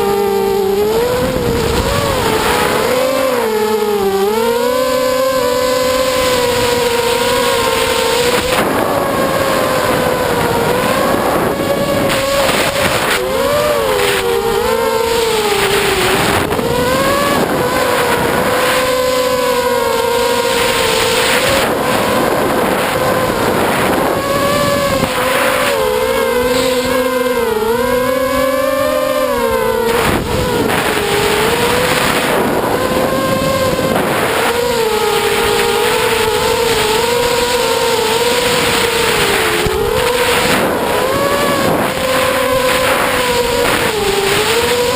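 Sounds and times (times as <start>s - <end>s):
drone motors whining: 0.0s - 44.9s
wind on microphone: 0.0s - 44.9s.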